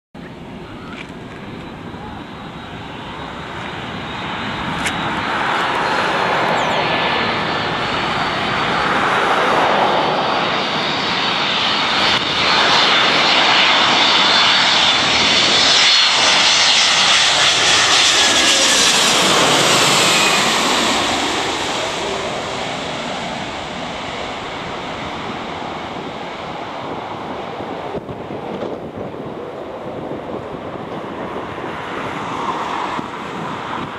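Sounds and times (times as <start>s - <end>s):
jet airliner engine noise: 0.2s - 33.9s.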